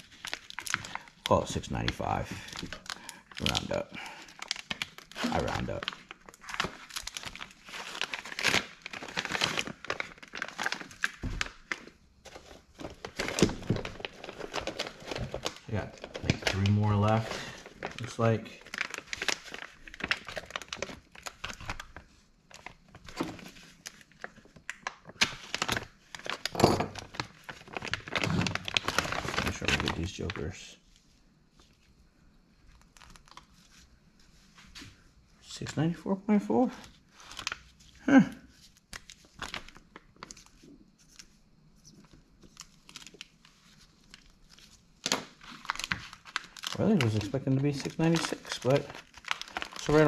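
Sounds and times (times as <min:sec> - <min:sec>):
packaging crinkling: 0:00.0 - 0:30.5, 0:32.6 - 0:35.0, 0:36.7 - 0:50.0.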